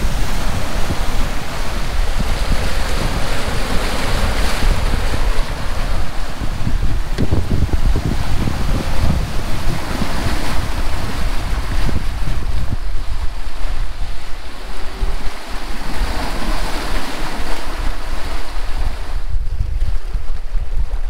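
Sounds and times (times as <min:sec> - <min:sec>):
seawater churning in wake: 0:00.0 - 0:21.0
wind buffeting microphone: 0:00.0 - 0:21.0.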